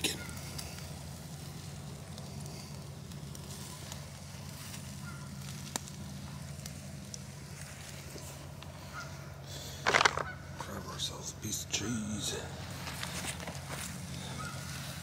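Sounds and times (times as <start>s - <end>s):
campfire embers crackling: 0.0s - 15.0s.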